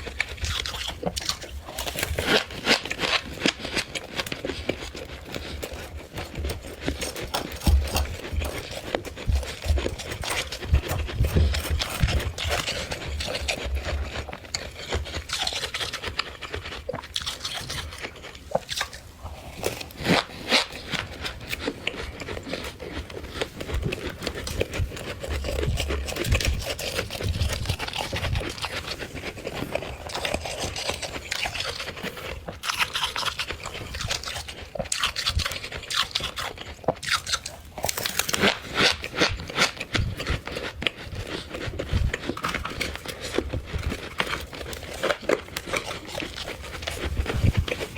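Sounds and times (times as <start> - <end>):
frost crunching and scraping: 0.0 - 47.9.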